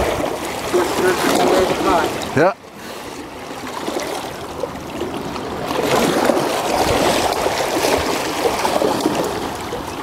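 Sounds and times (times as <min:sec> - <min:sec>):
river water rushing against rocks: 0:00.0 - 0:10.0.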